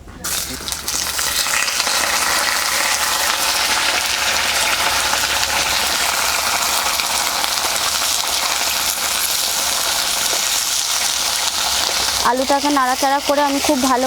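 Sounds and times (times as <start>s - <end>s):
potatoes sizzling in hot oil: 0.2s - 14.0s.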